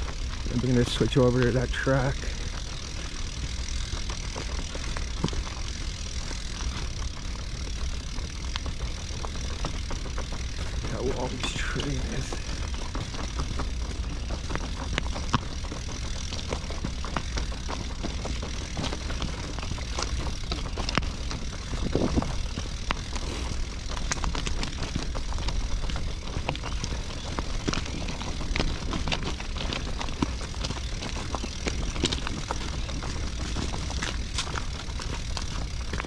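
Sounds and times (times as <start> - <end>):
tyres crunching on gravel: 0.0 - 36.0
vehicle low rumble: 0.0 - 36.0.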